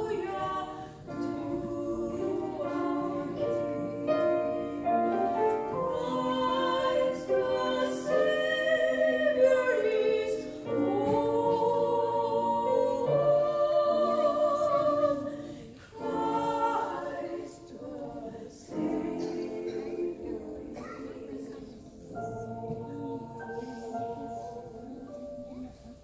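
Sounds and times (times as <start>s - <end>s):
women singing a duet: 0.0s - 26.0s.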